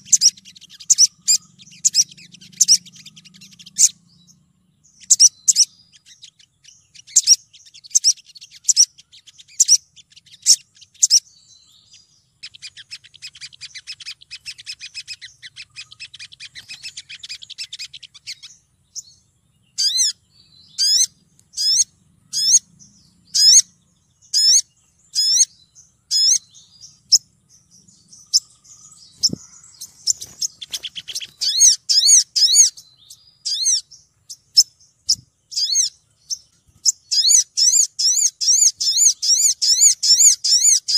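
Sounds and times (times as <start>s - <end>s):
sunbird calling: 0.0s - 40.9s.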